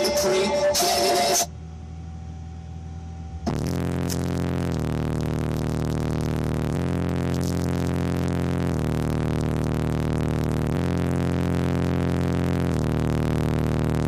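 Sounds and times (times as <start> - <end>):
distorted subwoofer bass notes: 0.0 - 2.2, 2.9 - 14.0.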